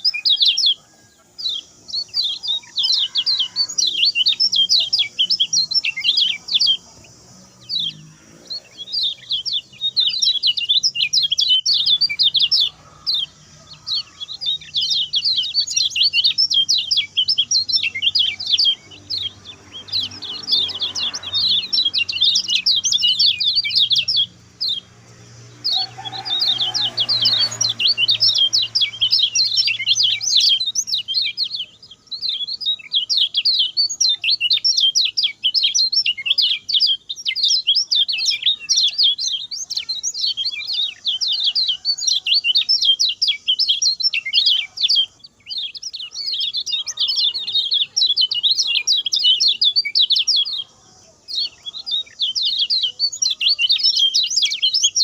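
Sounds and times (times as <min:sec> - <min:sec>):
songbird chattering song: 0:00.0 - 0:55.0.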